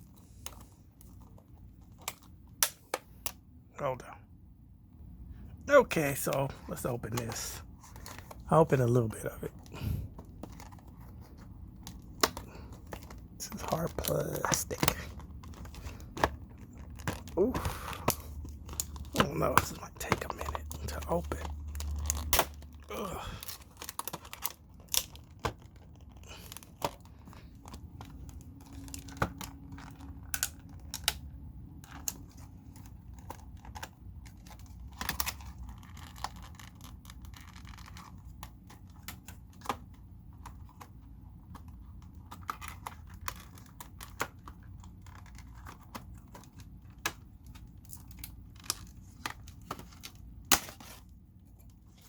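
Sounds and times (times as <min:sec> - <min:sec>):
stiff plastic crackling and snapping: 0:00.1 - 0:03.4, 0:06.1 - 0:52.0.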